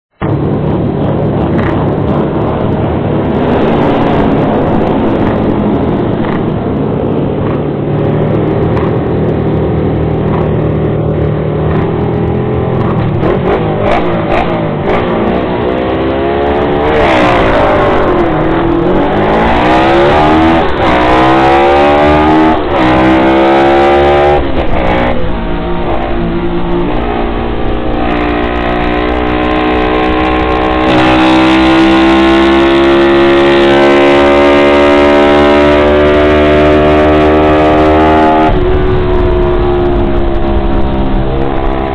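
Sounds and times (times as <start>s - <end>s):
motorcycle engine accelerating: 0.1s - 41.9s
surrounding motorcycle engines: 0.1s - 41.9s.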